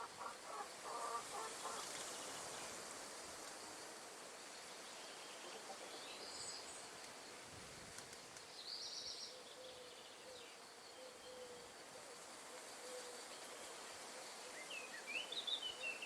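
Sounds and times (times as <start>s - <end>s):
wind rustling trees: 0.0s - 16.0s.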